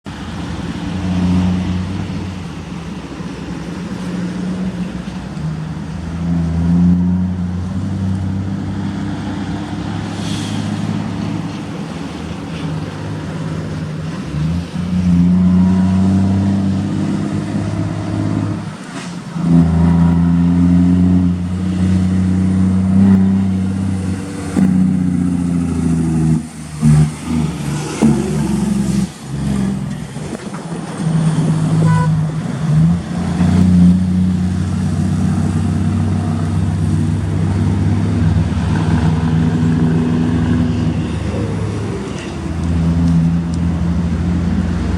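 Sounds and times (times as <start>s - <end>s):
truck diesel engine rumbling: 0.0s - 44.9s.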